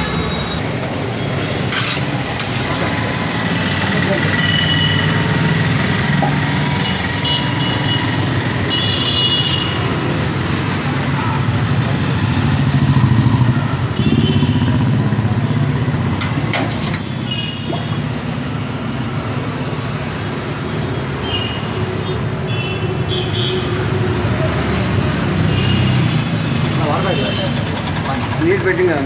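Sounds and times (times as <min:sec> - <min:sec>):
road traffic engines: 0:00.0 - 0:29.0.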